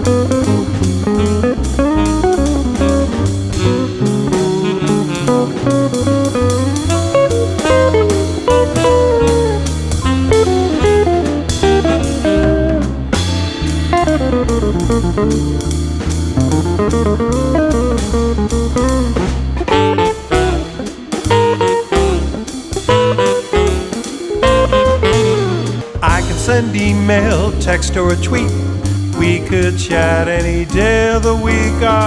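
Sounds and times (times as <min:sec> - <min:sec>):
blues guitar solo: 0:00.0 - 0:29.5
bass: 0:00.0 - 0:32.0
drum kit: 0:00.0 - 0:32.0.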